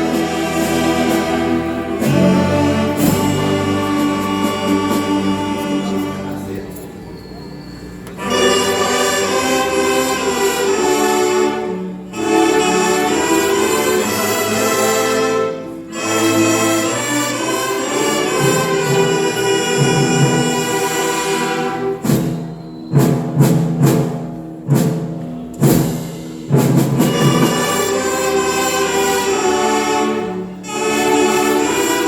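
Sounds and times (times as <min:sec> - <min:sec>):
timpani strikes: 0:00.0 - 0:06.7, 0:08.2 - 0:32.0
orchestra playing sustained chords: 0:00.0 - 0:07.4, 0:08.0 - 0:22.7, 0:23.5 - 0:32.0.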